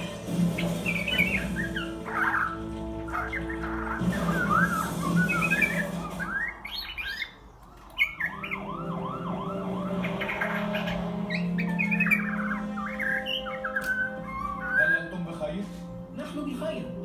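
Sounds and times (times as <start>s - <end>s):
arched whistled bird notes: 0.0s - 16.0s
bird singing: 0.0s - 16.0s.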